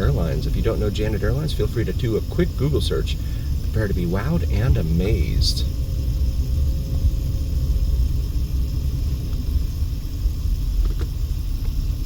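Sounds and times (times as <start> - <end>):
car engine and road noise: 0.0 - 12.0
faint hum: 0.0 - 12.0.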